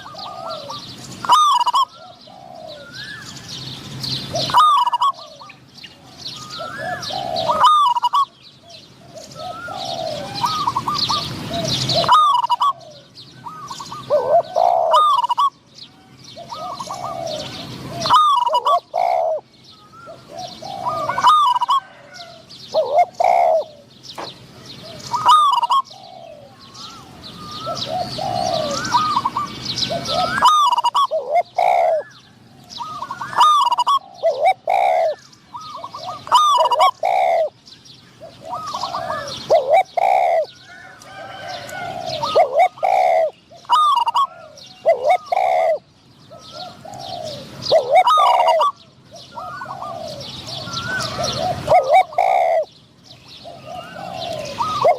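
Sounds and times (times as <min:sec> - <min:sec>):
doves cooing: 0:00.0 - 0:54.9
small birds chirping: 0:00.0 - 0:54.9.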